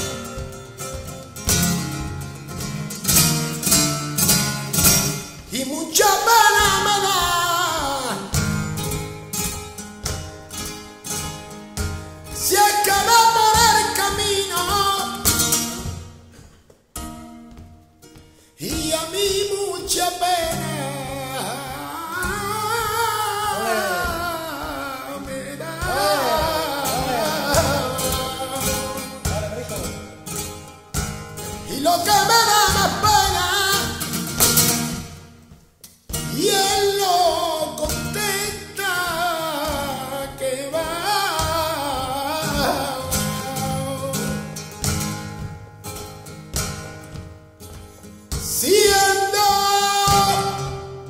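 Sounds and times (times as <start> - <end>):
man singing flamenco: 0.0 - 17.4, 18.1 - 51.0
flamenco guitar: 0.0 - 51.0.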